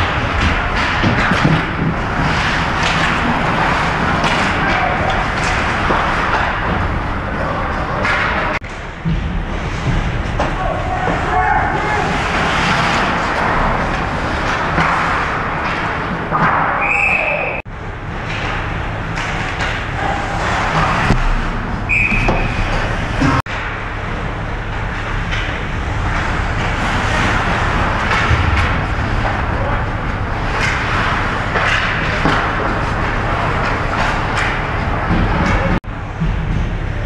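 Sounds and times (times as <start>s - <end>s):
arena noise: 0.0s - 37.0s.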